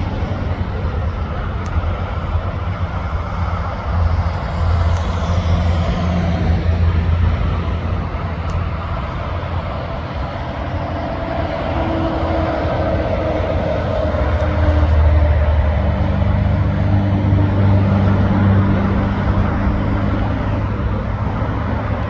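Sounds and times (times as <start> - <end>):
steady whine: 0.0 - 22.0
trucks passing: 0.0 - 22.0.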